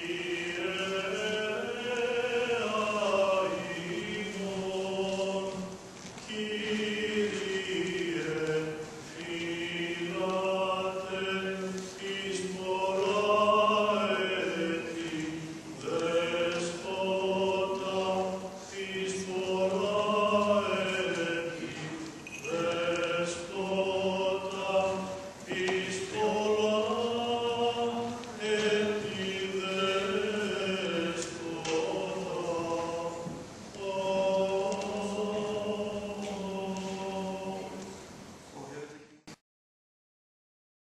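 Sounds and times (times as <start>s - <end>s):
unaccompanied liturgical chant: 0.0s - 39.2s.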